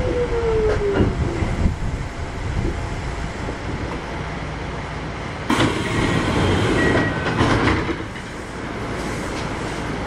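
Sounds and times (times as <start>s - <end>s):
electric train rolling on rails: 0.0s - 10.0s.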